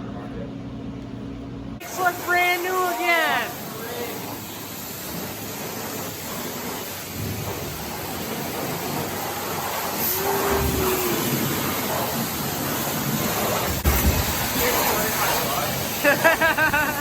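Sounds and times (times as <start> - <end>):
pressure washer spraying: 1.8 - 17.0.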